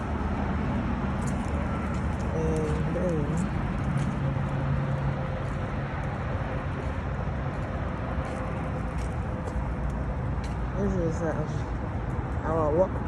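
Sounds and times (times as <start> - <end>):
low engine drone: 0.0 - 13.0
traffic rushing hum: 0.0 - 13.0.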